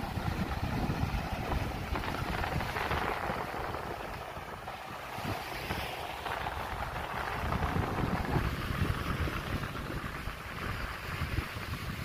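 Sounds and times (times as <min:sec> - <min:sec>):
steady rushing noise: 0:00.0 - 0:12.0
wind buffeting microphone: 0:00.0 - 0:12.0.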